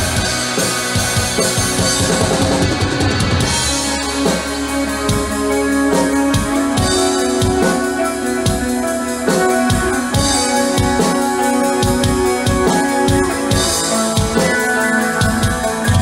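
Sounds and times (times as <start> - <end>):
fast drumming: 0.0 - 16.0
metal band playing live: 0.0 - 16.0.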